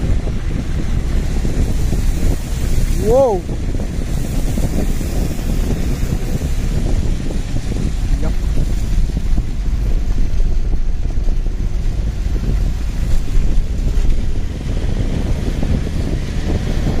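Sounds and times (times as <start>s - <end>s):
vehicle driving on road: 0.0s - 17.0s
wind buffeting microphone: 0.0s - 17.0s.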